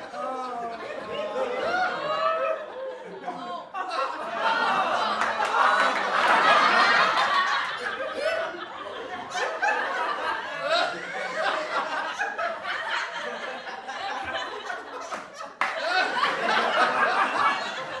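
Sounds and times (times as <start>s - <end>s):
group of people laughing: 0.0s - 18.0s.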